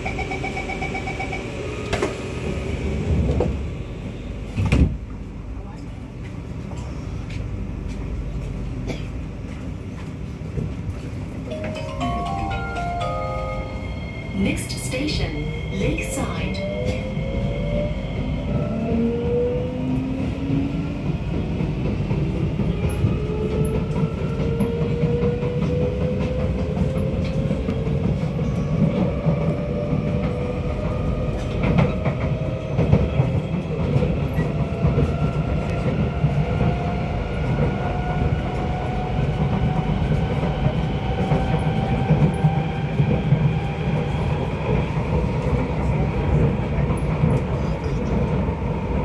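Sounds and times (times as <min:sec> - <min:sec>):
wheel and rail rumble: 0:00.0 - 0:49.0.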